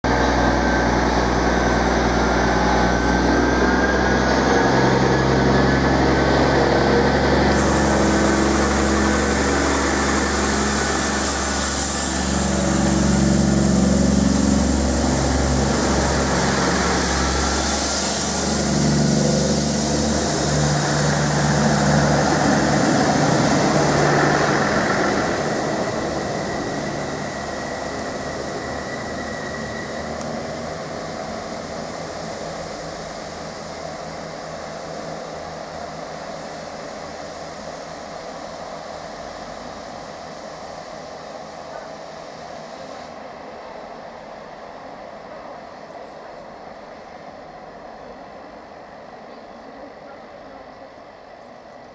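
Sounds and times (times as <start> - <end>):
diesel train passing: 0.0 - 51.9.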